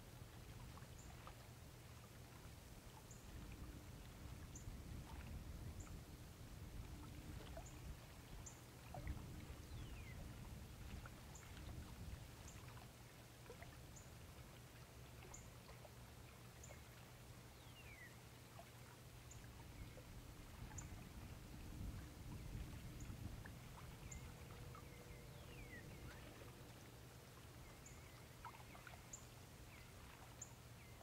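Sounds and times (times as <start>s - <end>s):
low steady hum: 0.0s - 31.0s
water lapping and trickling: 0.0s - 31.0s.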